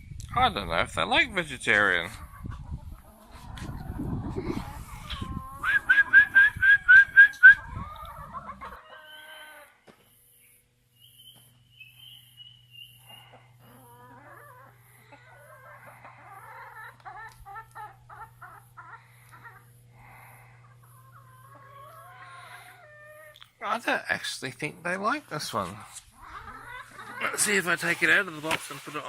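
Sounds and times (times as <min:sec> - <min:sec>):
steady low hum: 0:00.0 - 0:08.8, 0:09.8 - 0:29.0
chickens clucking: 0:01.4 - 0:10.4, 0:11.4 - 0:23.8, 0:24.8 - 0:29.0.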